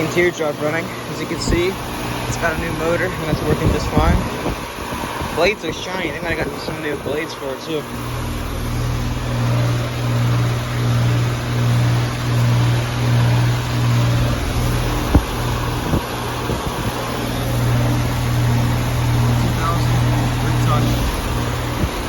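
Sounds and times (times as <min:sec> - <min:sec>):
compressor hum: 0:00.0 - 0:22.0
condenser fan rushing: 0:00.0 - 0:22.0.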